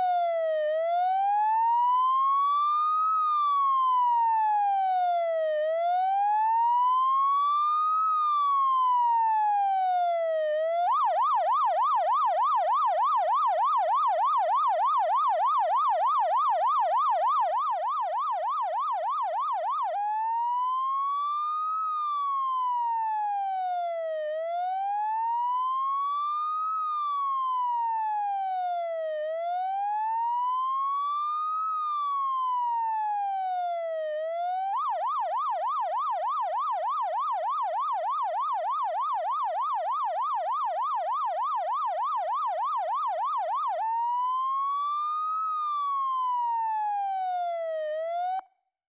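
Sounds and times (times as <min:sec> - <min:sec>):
siren fast yelp: 0:00.0 - 0:48.5
siren wailing: 0:00.0 - 0:48.5.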